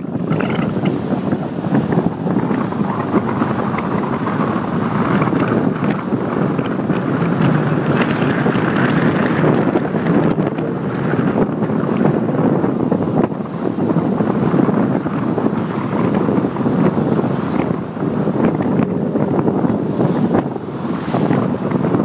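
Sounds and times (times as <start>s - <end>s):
car driving on road: 0.0s - 22.0s
wind noise on microphone: 0.0s - 22.0s.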